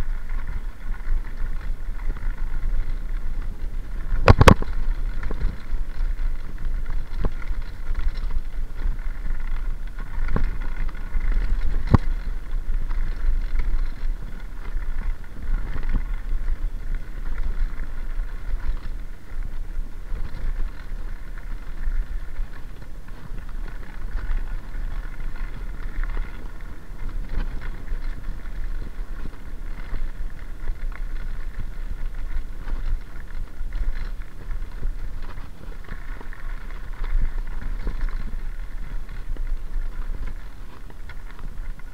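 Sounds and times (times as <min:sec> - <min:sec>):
bike tyres on gravel: 0:00.0 - 0:41.9
wind rumbling on microphone: 0:00.0 - 0:41.9.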